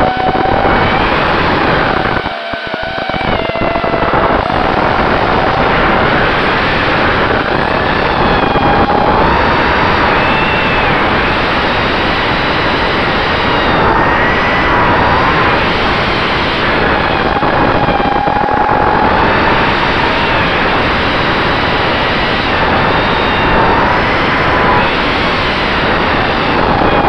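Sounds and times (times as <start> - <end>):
drone motors and propellers whining: 0.0 - 27.0.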